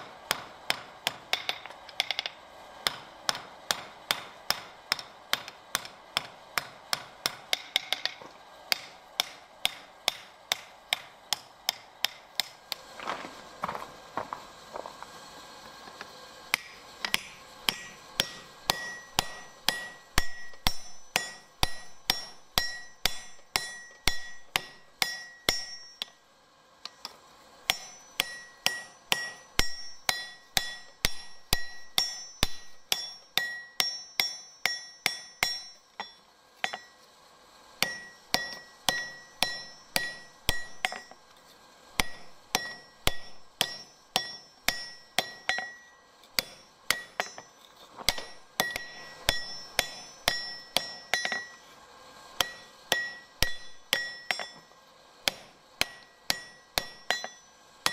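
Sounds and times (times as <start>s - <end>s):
hammer striking steel on anvil: 0.0s - 12.8s, 16.5s - 37.1s, 37.8s - 41.4s, 42.0s - 51.7s, 52.3s - 57.9s.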